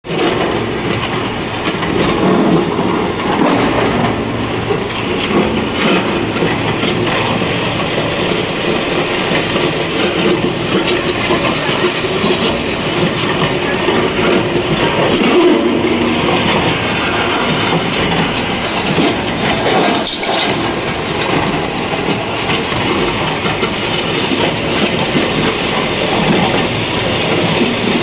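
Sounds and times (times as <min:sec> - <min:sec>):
concrete mixer churning: 0:00.0 - 0:28.0.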